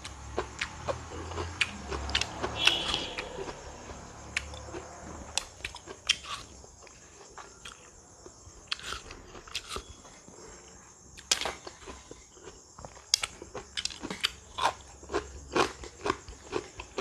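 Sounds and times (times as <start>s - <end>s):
crunching and chewing fruit: 0.0s - 17.0s.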